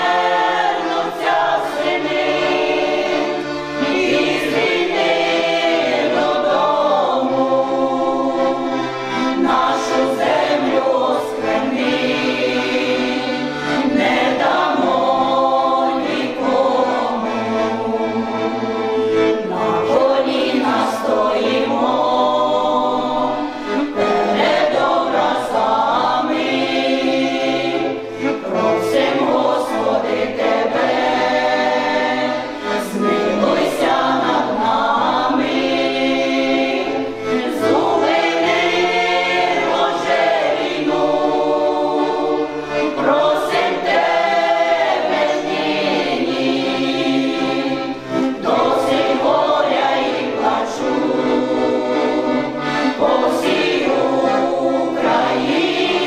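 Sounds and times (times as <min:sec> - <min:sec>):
folk choir singing: 0:00.0 - 0:56.0.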